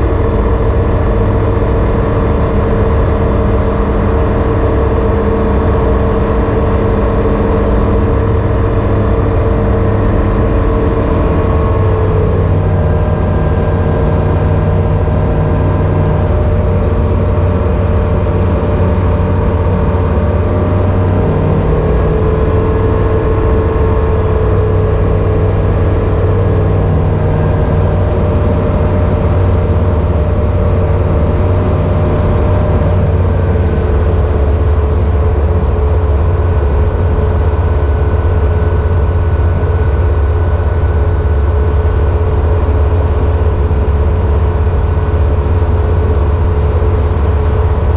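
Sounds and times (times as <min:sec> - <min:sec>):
light aircraft engine and propeller: 0:00.0 - 0:47.9.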